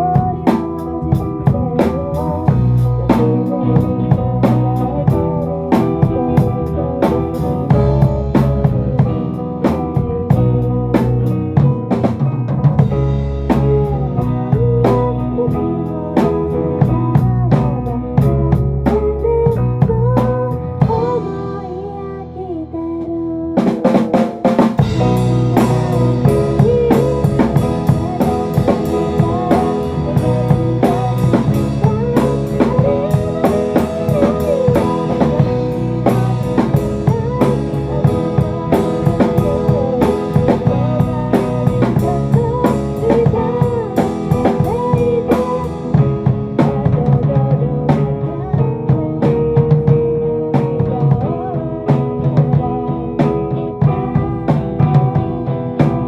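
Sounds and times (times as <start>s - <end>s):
drum kit beat: 0.0s - 22.2s, 23.6s - 56.0s
bass: 0.0s - 56.0s
bending guitar melody: 0.0s - 56.0s.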